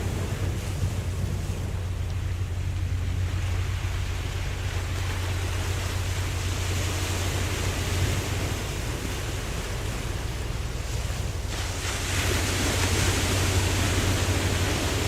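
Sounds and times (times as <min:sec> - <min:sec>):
low rumble: 0:00.0 - 0:15.0
ocean waves washing: 0:00.0 - 0:15.0.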